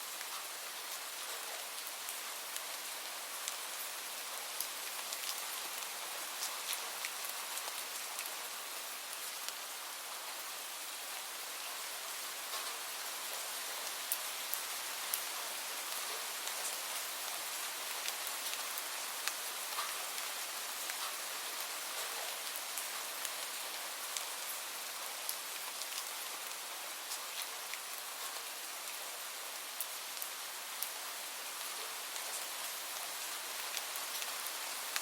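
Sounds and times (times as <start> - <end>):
light rain pattering: 0.0 - 35.0.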